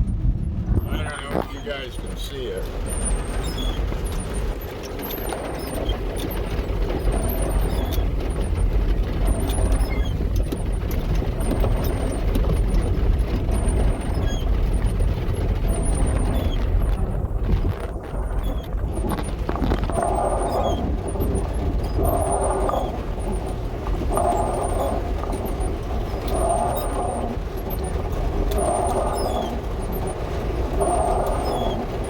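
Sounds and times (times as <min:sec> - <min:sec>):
van engine and road rumble: 0:00.0 - 0:32.0
mud spatters and ticks: 0:00.7 - 0:32.0
water rushing: 0:05.6 - 0:32.0.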